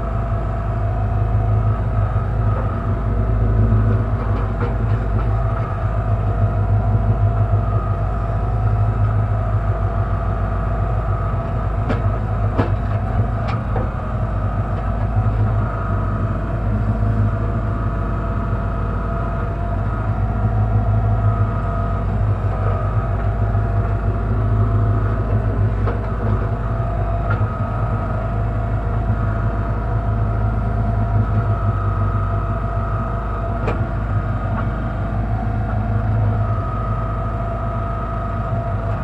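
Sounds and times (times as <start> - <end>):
engine running: 0.0 - 39.0
hydraulics working: 0.1 - 39.0.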